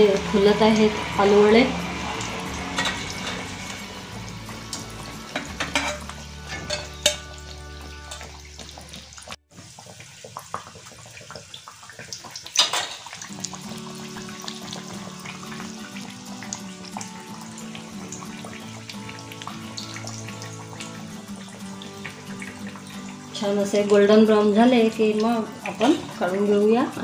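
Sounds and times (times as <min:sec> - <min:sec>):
food deep-frying in sizzling oil: 0:00.0 - 0:27.0.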